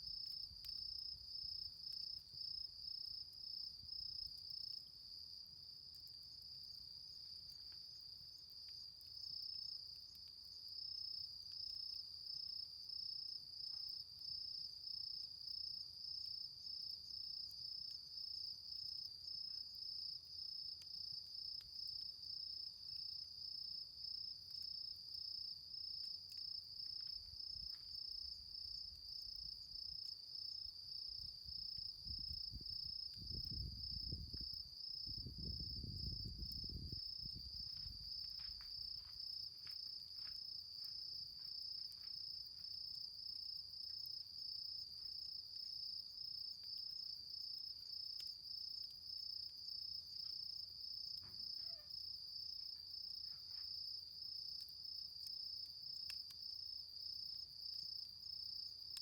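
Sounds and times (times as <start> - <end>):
campfire embers ticking: 0.0 - 51.8, 52.9 - 59.0
crickets trilling: 0.0 - 59.0.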